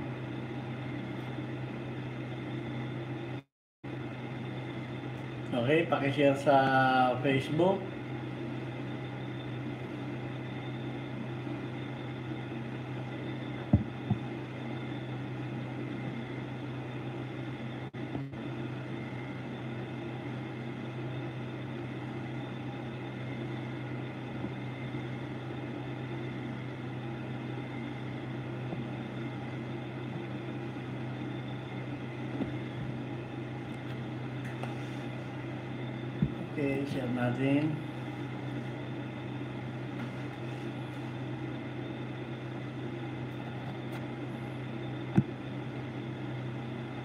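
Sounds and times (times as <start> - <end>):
machine hum: 0.0 - 47.0.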